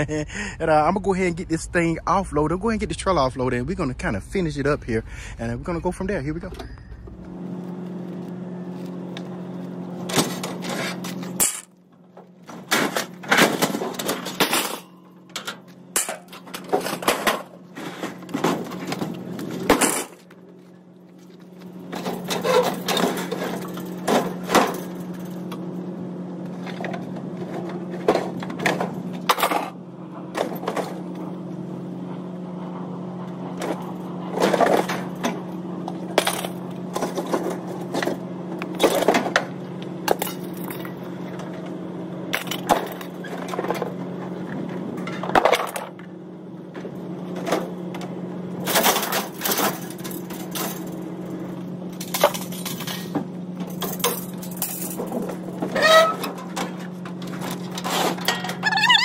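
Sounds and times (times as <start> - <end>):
steady engine hum: 0.0 - 59.0.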